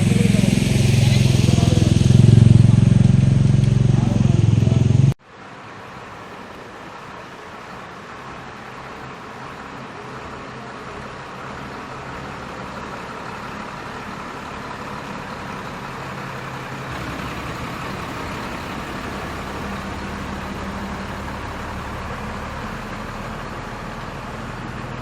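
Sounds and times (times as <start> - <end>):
engine running steadily: 0.0 - 5.2, 6.0 - 25.0.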